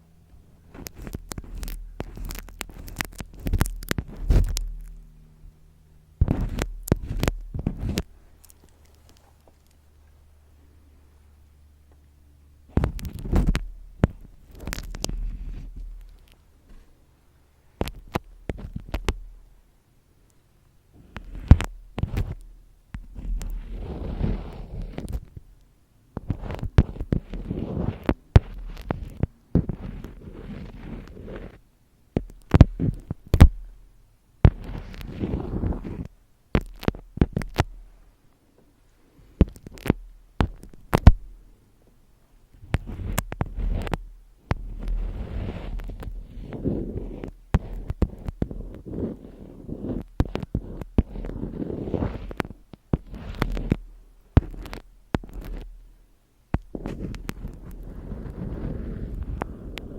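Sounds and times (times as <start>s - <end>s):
soft low rustling: 0.0s - 59.9s.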